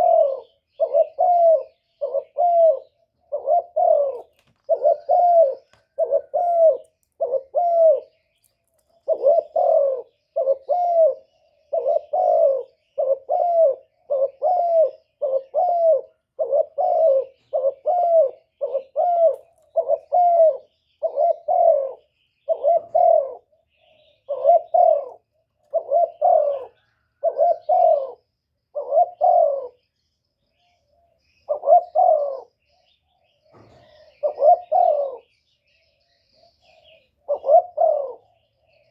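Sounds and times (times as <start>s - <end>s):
dove cooing: 0.0s - 29.9s, 30.5s - 38.9s.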